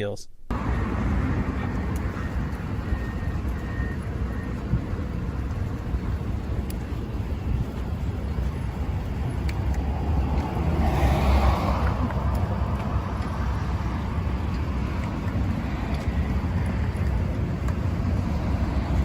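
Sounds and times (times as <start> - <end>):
road traffic rumble: 0.5 - 19.0
vehicle passing: 0.5 - 19.0.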